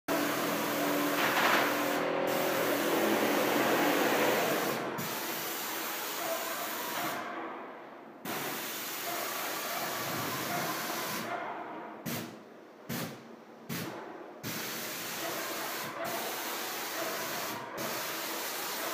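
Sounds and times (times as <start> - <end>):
spray gun hissing: 0.1 - 7.2, 8.3 - 11.3, 12.9 - 18.9.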